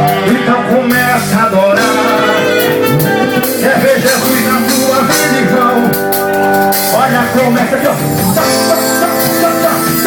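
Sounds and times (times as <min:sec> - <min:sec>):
live band playing: 0:00.0 - 0:10.0
person singing: 0:00.0 - 0:10.0.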